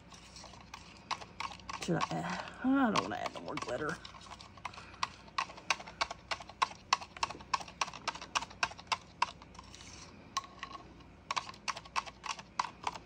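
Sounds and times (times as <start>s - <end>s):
stick scraping and knocking in cup: 0.0s - 13.0s.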